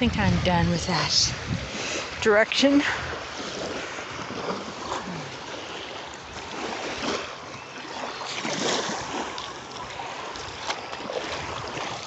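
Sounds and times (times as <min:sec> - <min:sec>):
small waves washing on shore: 0:00.0 - 0:12.0.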